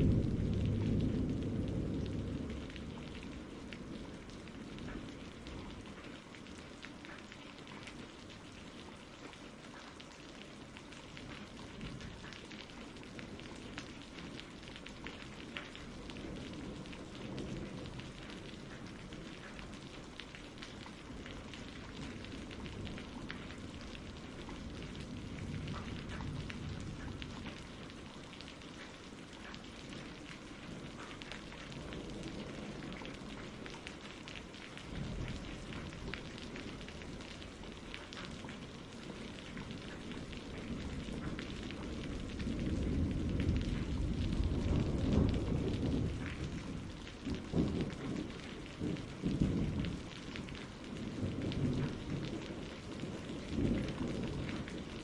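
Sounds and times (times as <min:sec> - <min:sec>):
thunder rumbling: 0:00.0 - 0:06.4, 0:10.9 - 0:55.0
rain pattering: 0:00.0 - 0:55.0.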